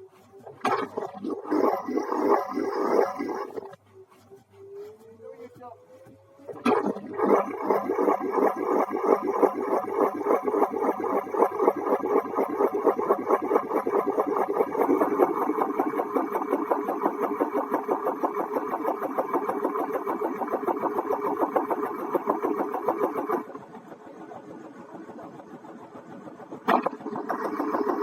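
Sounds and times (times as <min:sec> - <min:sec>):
engine running with fast pulse: 0:00.0 - 0:28.0.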